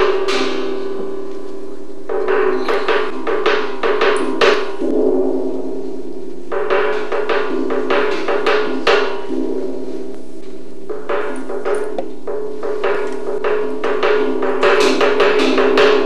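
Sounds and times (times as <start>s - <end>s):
sharp knocking percussion strokes: 0.0s - 16.0s.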